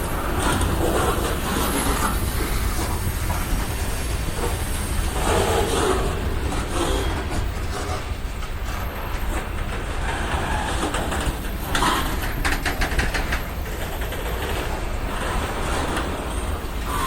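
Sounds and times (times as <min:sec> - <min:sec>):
freight cars rumbling: 0:00.0 - 0:17.0
wheels clicking over rail joints: 0:00.0 - 0:17.0.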